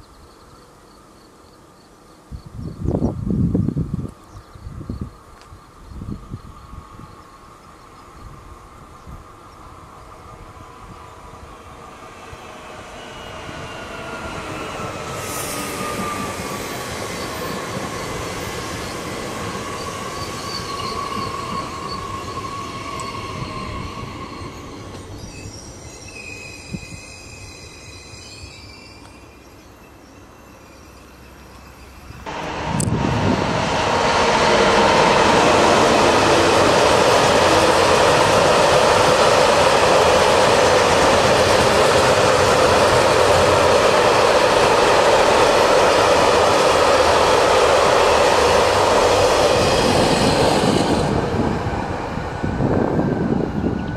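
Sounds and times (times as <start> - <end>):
railcar passing with whine: 0.0 - 53.9
freight train rumbling past: 4.7 - 53.9.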